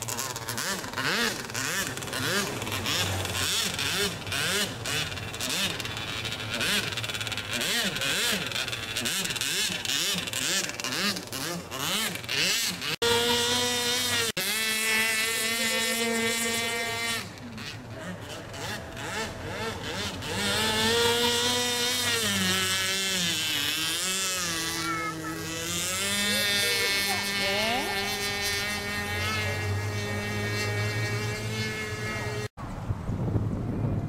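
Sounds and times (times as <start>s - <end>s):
speedboat engine running: 0.0s - 34.0s.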